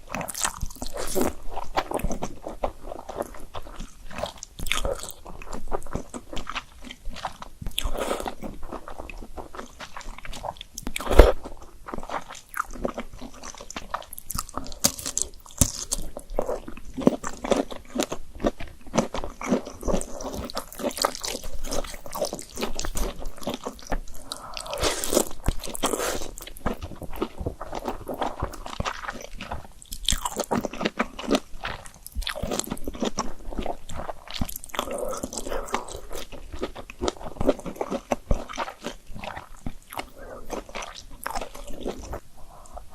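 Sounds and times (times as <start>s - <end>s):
chewing noodles: 0.0s - 42.9s.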